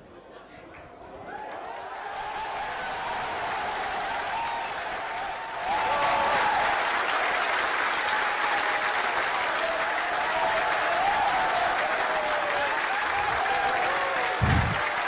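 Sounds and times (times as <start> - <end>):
crowd cheering and clapping: 1.1 - 15.0
shouts and whoops: 1.3 - 7.3, 7.9 - 15.0.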